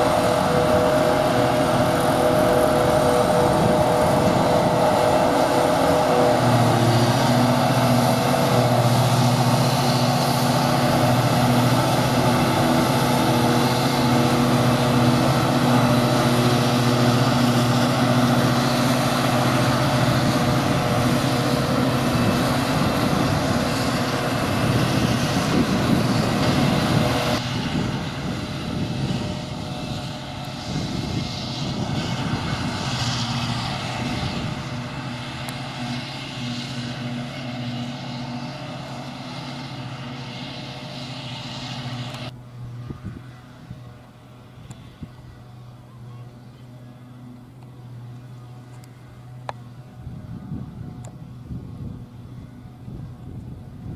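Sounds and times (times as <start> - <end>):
deep engine drone: 0.0 - 53.9.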